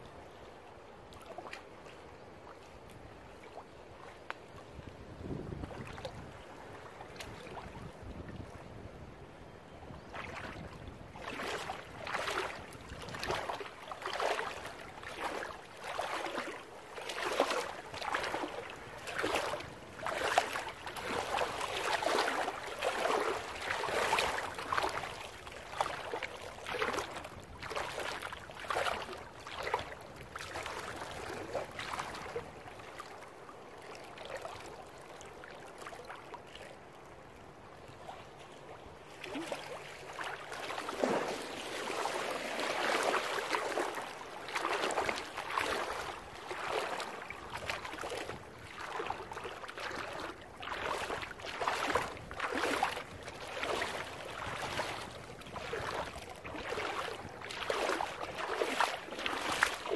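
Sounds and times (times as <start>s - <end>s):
waves washing onto beach: 10.1s - 36.8s, 37.6s - 59.9s.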